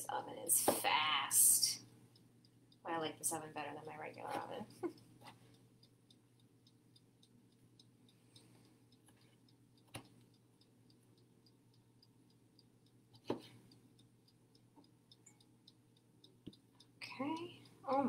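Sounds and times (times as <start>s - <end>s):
fast faint ticking: 1.4s - 18.0s.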